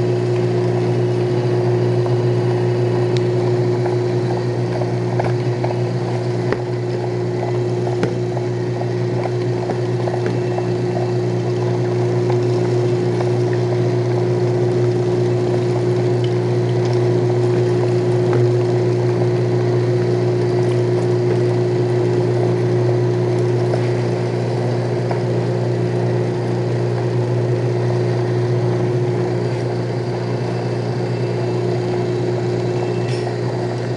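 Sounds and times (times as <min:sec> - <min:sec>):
motor-driven meat grinder humming: 0:00.0 - 0:33.9.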